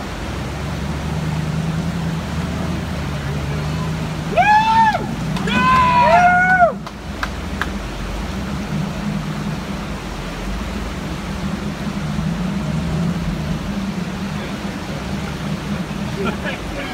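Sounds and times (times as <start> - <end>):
creek water rushing: 0.0 - 16.9
off-road vehicle engine at low revs: 0.0 - 16.9.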